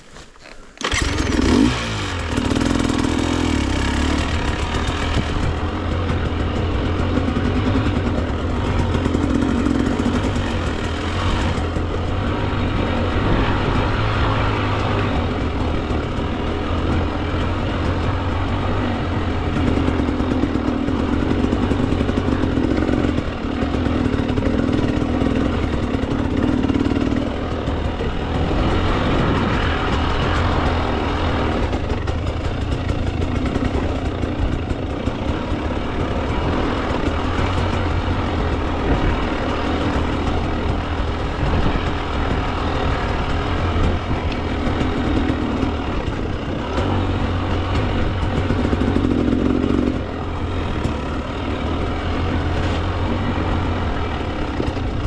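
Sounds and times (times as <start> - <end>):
dirt bike engine running: 0.2 - 55.0.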